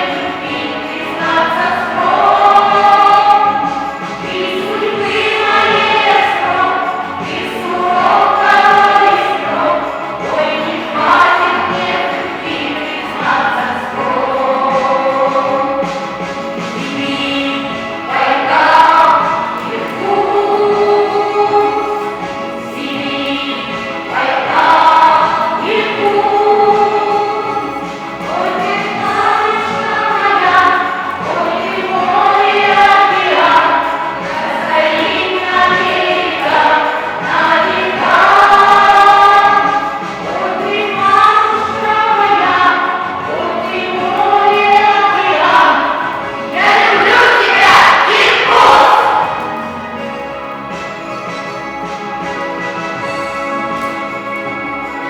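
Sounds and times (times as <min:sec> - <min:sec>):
children's choir singing: 0:00.0 - 0:55.0
instrumental accompaniment: 0:00.0 - 0:55.0.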